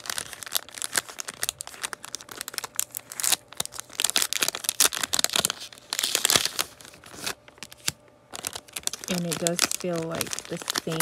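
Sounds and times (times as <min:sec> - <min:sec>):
plastic sleeve crinkling: 0:00.0 - 0:11.0.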